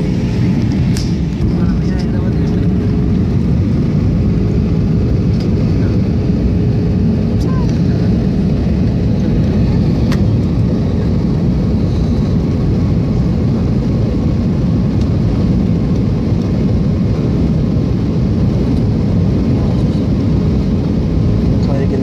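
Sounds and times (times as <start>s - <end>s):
jet cabin engine rumble: 0.0s - 22.0s.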